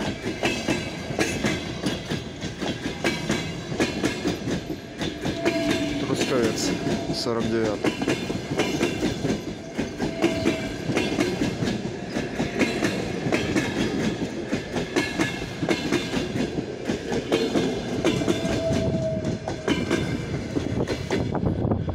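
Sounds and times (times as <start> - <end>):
train wheels clattering over rail joints: 0.0 - 21.6
train rolling rumble: 0.0 - 21.9.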